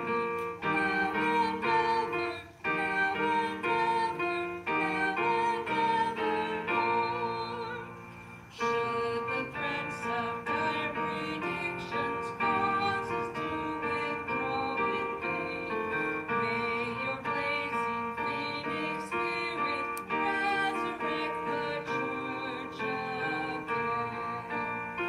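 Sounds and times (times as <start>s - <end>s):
piano playing slow chords: 0.0s - 25.0s.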